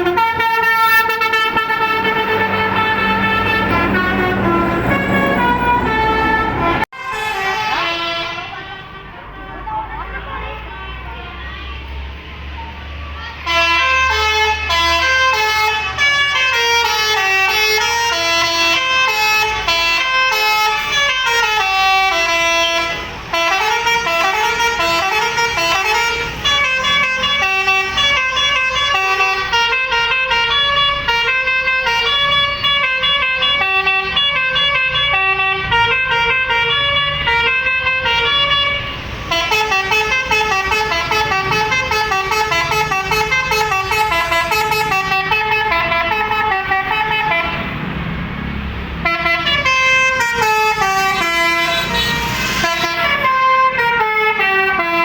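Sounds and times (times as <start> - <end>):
musical air horn playing tune: 0.0 - 9.2, 13.5 - 47.6, 49.0 - 55.0.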